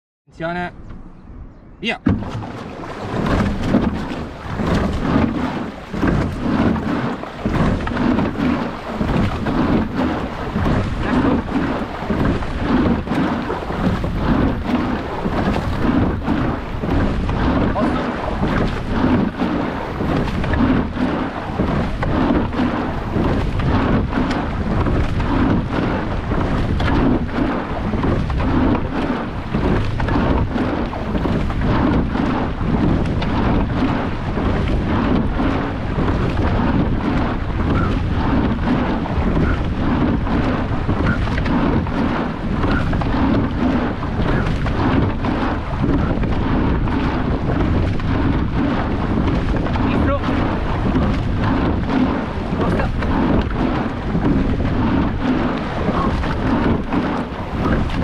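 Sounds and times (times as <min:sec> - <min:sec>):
water rushing along hull: 0:00.3 - 0:58.0
wind buffeting microphone: 0:00.4 - 0:58.0.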